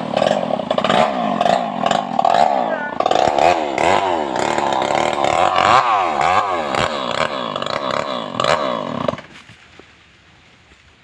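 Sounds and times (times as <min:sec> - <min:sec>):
chainsaw running hard: 0:00.0 - 0:09.4.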